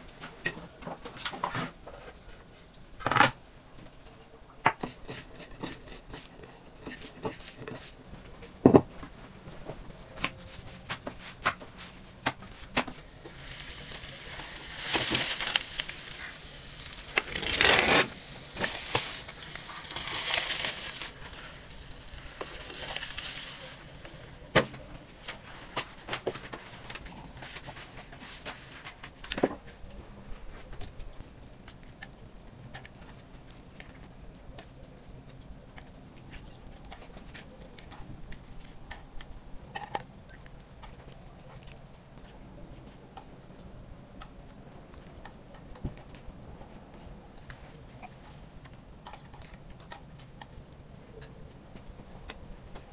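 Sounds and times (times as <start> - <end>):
rustling crackling: 4.8 - 52.9.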